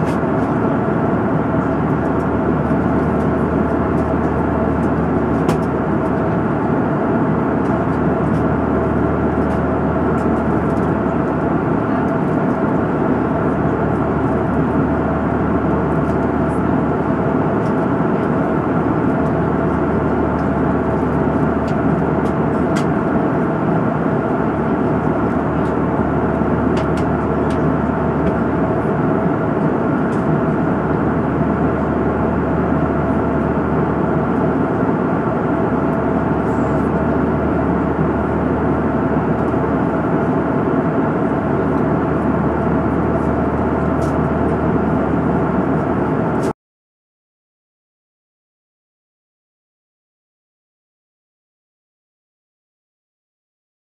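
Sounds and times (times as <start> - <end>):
jet airliner cabin roar: 0.0 - 46.6.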